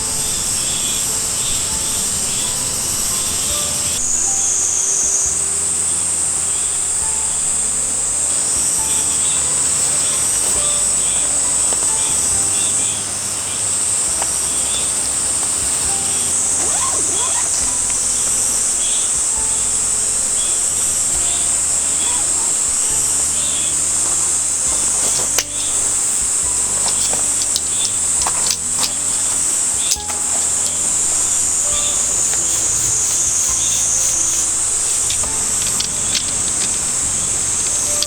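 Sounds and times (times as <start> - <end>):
cicadas droning: 0.0 - 38.0
soft background music: 0.0 - 38.0.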